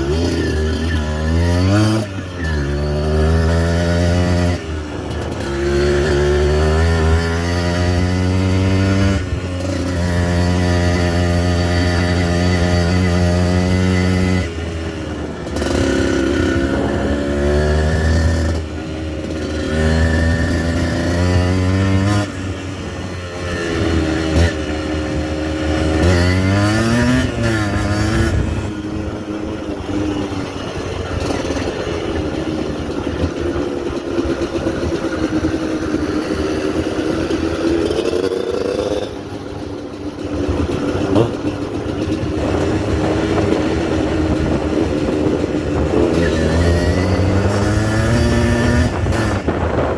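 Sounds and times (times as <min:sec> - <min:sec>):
two-stroke motorcycle engine: 0:00.0 - 0:49.9.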